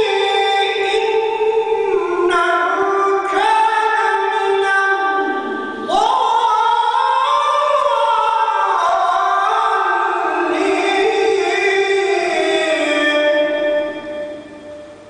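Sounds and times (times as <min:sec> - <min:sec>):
man chanting melodically: 0:00.0 - 0:14.9.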